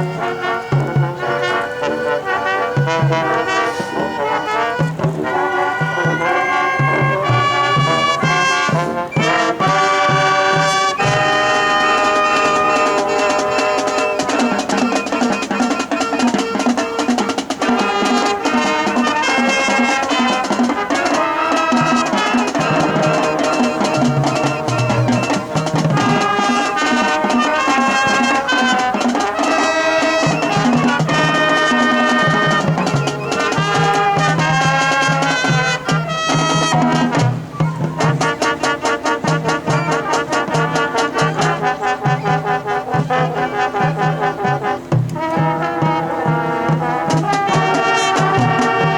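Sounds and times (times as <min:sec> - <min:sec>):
marching band playing: 0:00.0 - 0:48.9.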